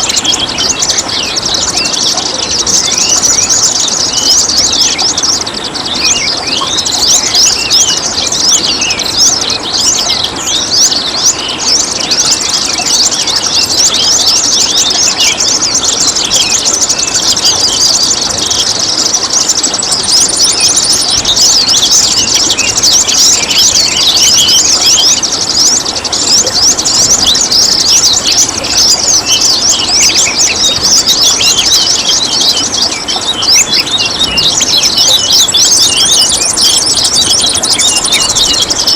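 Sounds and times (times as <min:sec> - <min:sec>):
songbirds chirping: 0:00.0 - 0:38.9
water trickling: 0:00.0 - 0:38.9.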